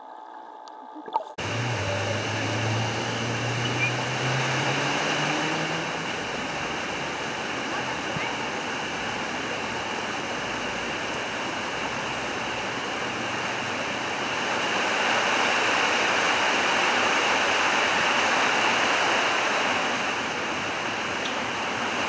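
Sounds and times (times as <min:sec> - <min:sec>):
water rushing over rocks: 0:01.0 - 0:22.0.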